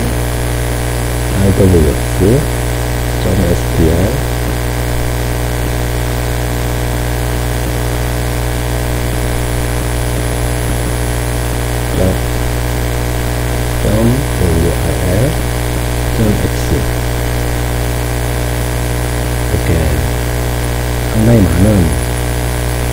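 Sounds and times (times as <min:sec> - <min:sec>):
electrical mains hum: 0:00.0 - 0:22.9.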